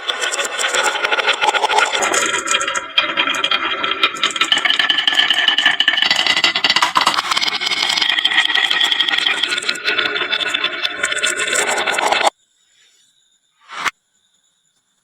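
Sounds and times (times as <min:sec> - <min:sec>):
marbles rolling down wooden run: 0:00.0 - 0:12.3.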